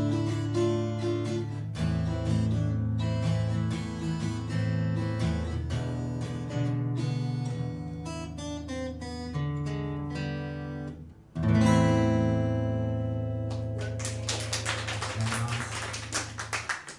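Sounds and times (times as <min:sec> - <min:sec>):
acoustic guitar picked notes: 0:00.0 - 0:14.0.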